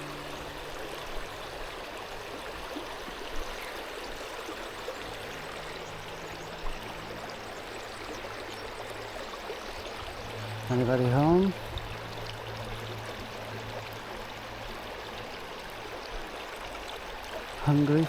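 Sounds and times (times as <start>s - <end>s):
creek water running over stones: 0.0s - 18.0s.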